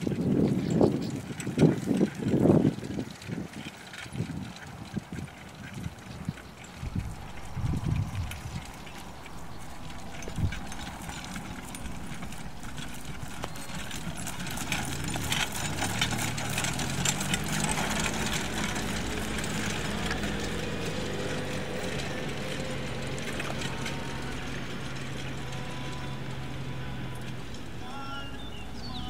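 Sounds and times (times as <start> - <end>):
vehicle engine running: 0.0 - 29.0
carriage rattle: 0.1 - 29.0.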